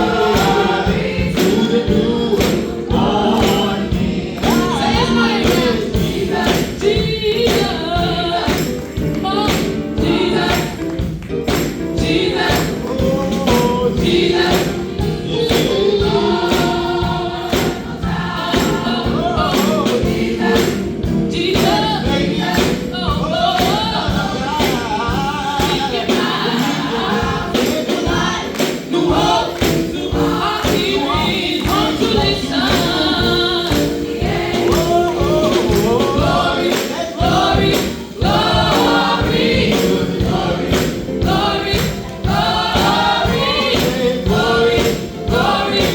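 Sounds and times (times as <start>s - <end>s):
choir singing gospel song: 0.0s - 45.9s
steady percussive beat: 0.0s - 45.9s.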